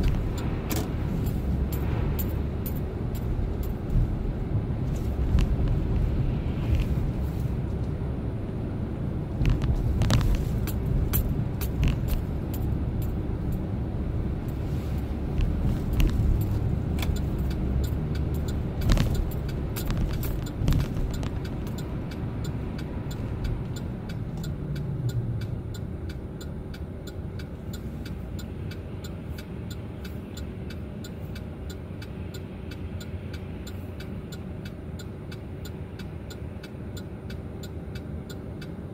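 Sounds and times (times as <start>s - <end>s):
pickup engine and tyre rumble: 0.0s - 38.9s.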